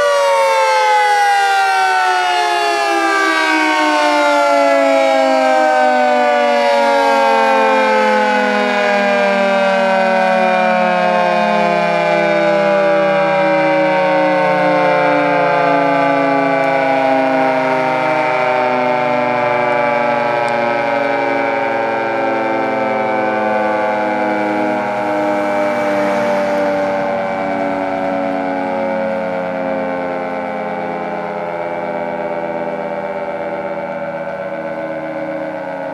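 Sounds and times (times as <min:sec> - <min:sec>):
dual-tone warning siren: 0:00.0 - 0:35.9.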